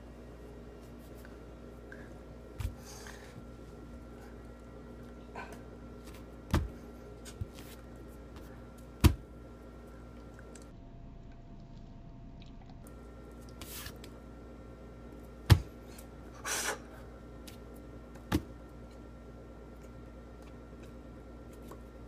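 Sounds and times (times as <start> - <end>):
room hum with high whine: 0.0 - 22.0.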